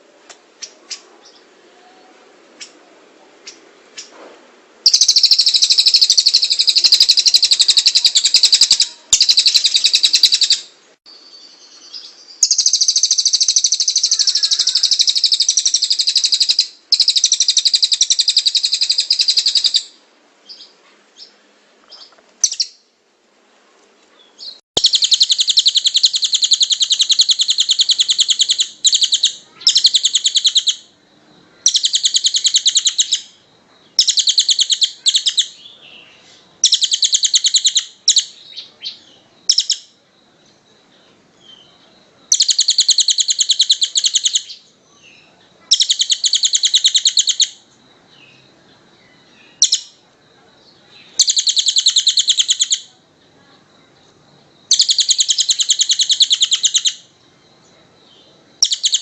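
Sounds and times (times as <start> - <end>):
bird singing rapid high trills: 4.8 - 21.3, 24.4 - 50.0, 50.7 - 59.0.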